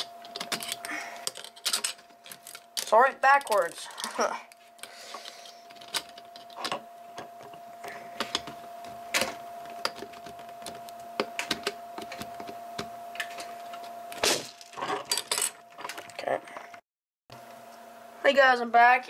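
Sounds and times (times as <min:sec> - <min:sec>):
faint steady whine: 0:00.0 - 0:19.0.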